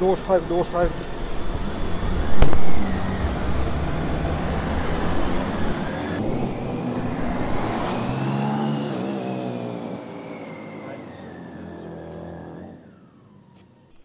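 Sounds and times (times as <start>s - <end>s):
car accelerating hard: 0.4s - 13.3s.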